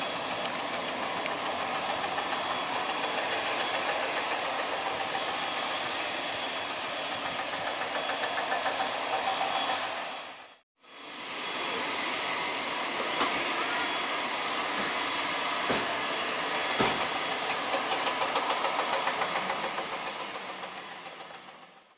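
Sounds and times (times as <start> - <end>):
turboprop engines rumbling: 0.0 - 21.9.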